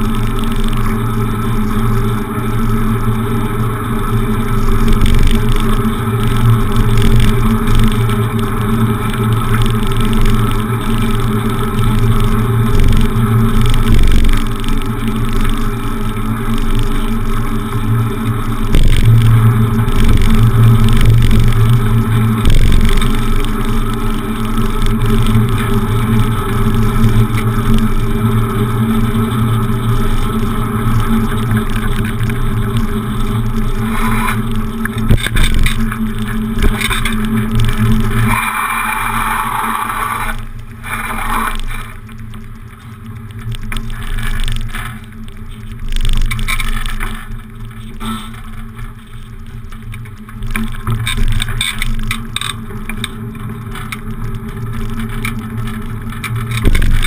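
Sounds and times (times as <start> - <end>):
bicycle rolling noise: 0.0 - 57.0
wind rushing over camera: 0.0 - 57.0.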